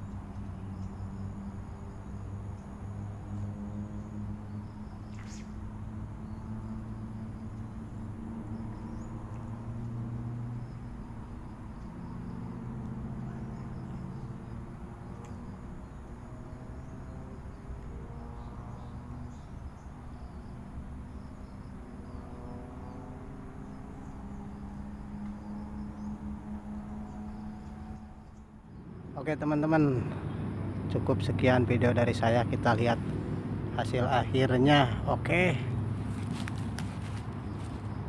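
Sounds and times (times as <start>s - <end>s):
birds chirping: 0.0s - 38.0s
insects chirping: 0.0s - 38.0s
low engine-like hum: 0.0s - 38.0s.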